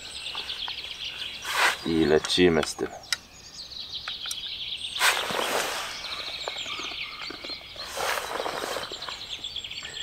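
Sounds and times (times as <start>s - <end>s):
songbirds trilling: 0.0s - 10.0s.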